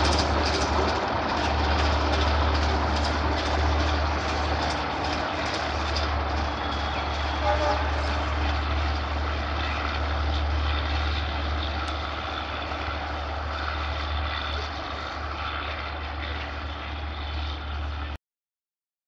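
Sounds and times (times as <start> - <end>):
passenger train rumbling on tracks: 0.0 - 18.2.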